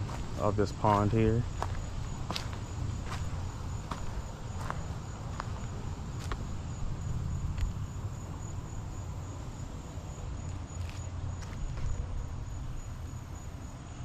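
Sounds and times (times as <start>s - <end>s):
wind rumble on microphone: 0.0s - 13.1s.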